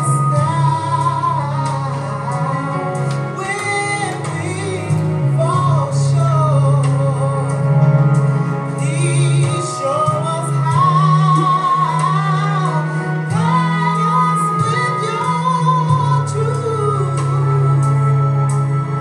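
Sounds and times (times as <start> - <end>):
woman singing: 0.0 - 7.8, 8.8 - 18.4
bass: 0.0 - 19.0
keyboard chords: 0.0 - 19.0.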